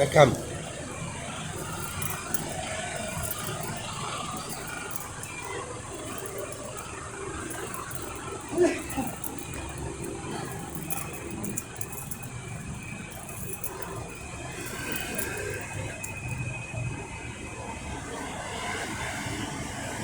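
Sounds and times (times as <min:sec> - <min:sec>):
vehicle engines running: 0:00.0 - 0:17.1.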